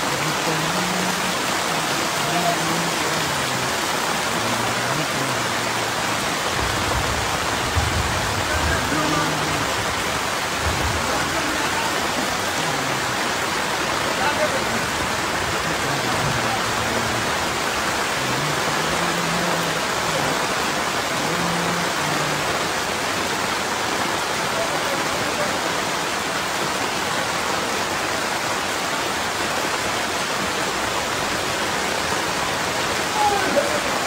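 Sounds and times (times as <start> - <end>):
flowing floodwater: 0.0 - 34.0
rain: 0.0 - 34.0.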